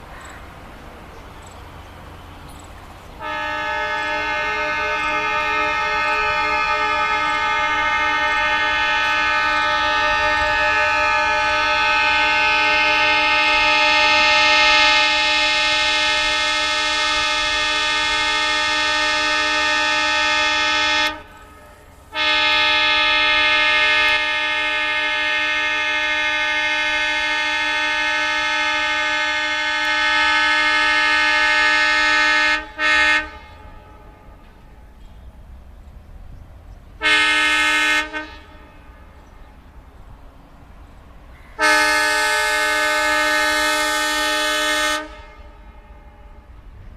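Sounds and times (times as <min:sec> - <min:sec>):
low train rumble: 0:00.0 - 0:46.9
locomotive horn blasts: 0:03.2 - 0:35.4, 0:36.9 - 0:39.6, 0:41.4 - 0:46.7.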